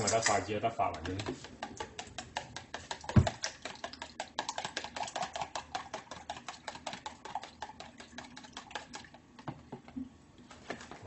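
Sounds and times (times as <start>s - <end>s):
utensil clicking against bowl: 0.0s - 9.0s
eggs beaten in ceramic bowl: 0.0s - 10.0s.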